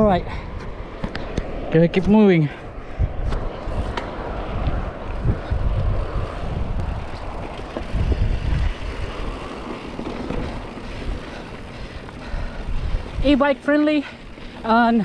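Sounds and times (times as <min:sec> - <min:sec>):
bike tyres rolling on dirt: 0:00.0 - 0:15.0
wind rushing over microphone: 0:00.0 - 0:15.0.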